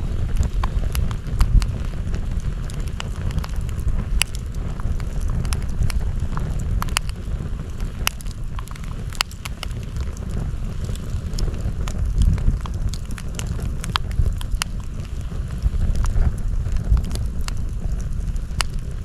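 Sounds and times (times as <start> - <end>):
burning wood crackling and popping: 0.0 - 19.0
campfire low rumble: 0.0 - 19.0.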